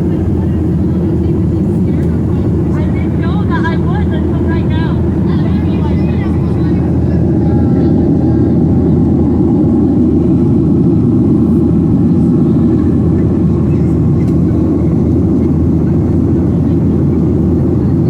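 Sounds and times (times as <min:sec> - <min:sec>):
airflow over fuselage: 0:00.0 - 0:18.0
airplane cabin engine drone: 0:00.0 - 0:18.0.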